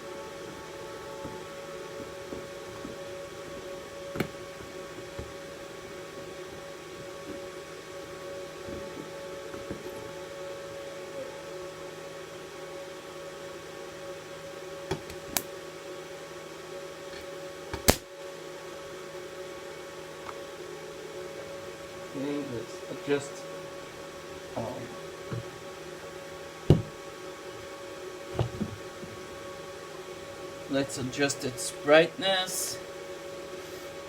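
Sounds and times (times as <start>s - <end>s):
welding machine fan humming: 0.0s - 34.0s.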